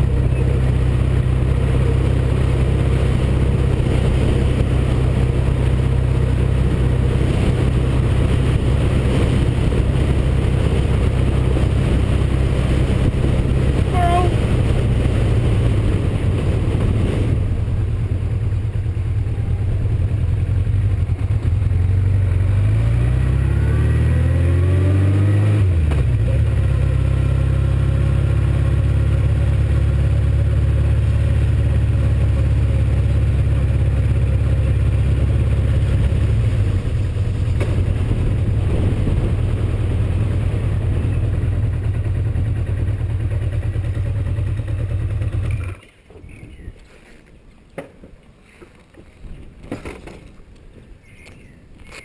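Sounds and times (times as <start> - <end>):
motorcycle engine: 0.0 - 46.5.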